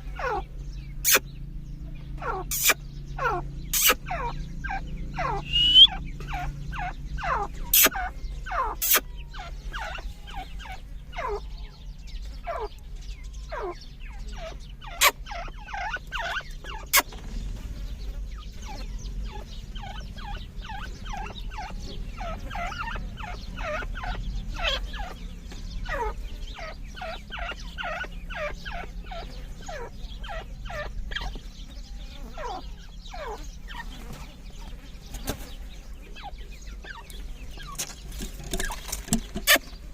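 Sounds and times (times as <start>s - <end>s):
francolins calling: 0.0s - 39.9s.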